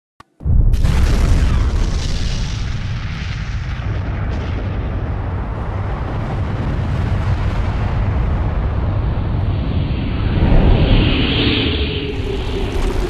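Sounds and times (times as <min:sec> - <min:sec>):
explosion deep rumble: 0:00.4 - 0:13.0.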